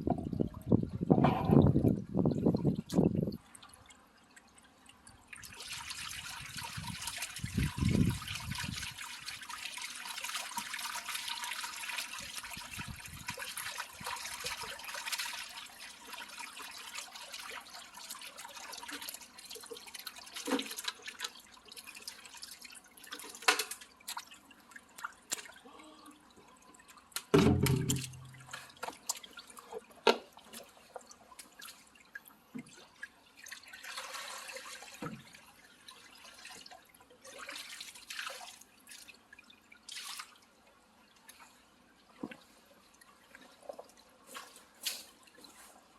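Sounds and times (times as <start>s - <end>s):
water pouring and splashing: 0.0s - 40.5s, 42.2s - 45.9s
water dripping and trickling: 0.0s - 45.8s.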